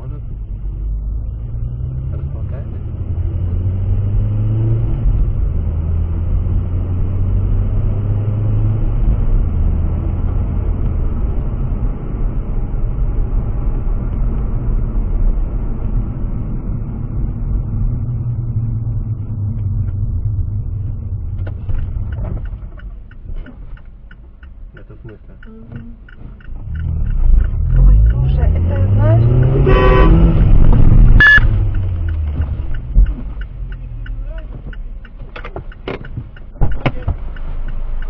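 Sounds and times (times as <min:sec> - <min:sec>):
car interior engine and road rumble: 0:00.0 - 0:38.0.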